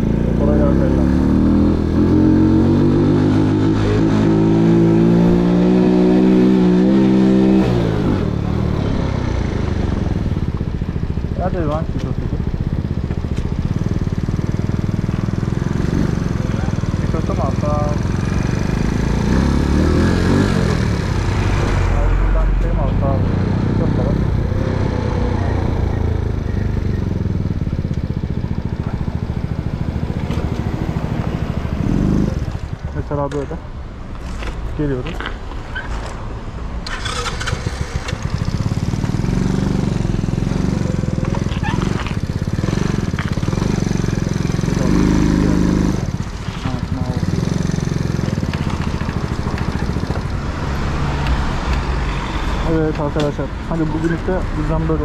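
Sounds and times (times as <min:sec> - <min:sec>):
moped engine running: 0:00.0 - 0:33.6, 0:36.9 - 0:55.0.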